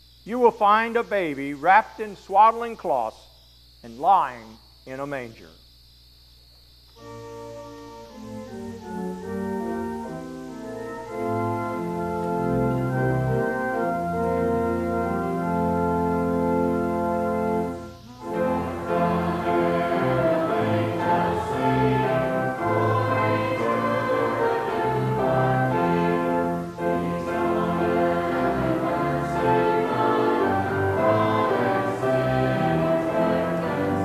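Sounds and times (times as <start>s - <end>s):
church organ chords: 0.0s - 5.6s, 6.8s - 34.0s.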